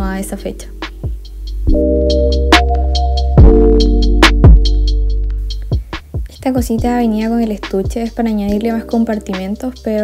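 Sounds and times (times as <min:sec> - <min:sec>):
drum machine beat: 0:00.8 - 0:10.0.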